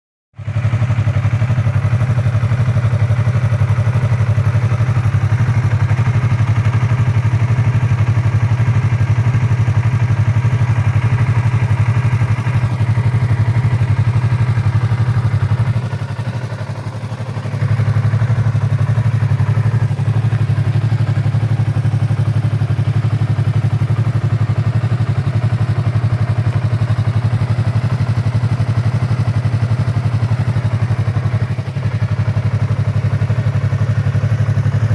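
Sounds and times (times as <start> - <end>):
motorcycle engine idling: 0.4 - 34.9.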